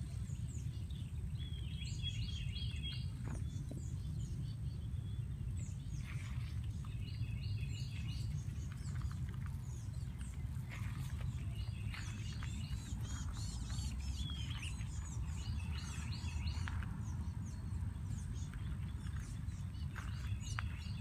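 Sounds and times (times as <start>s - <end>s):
small birds chirping: 0.0s - 21.0s
steady low rumble: 0.0s - 21.0s.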